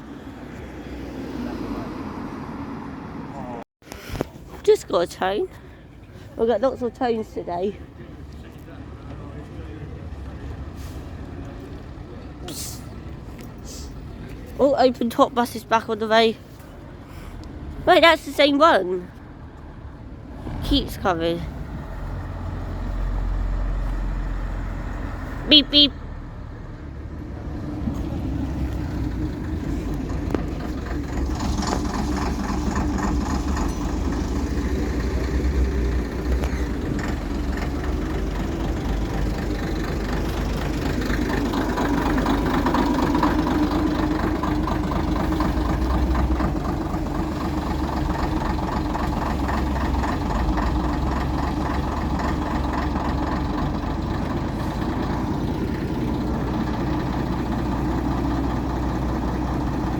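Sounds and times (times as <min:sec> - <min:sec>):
diesel bus engine idling: 0:04.7 - 0:59.9.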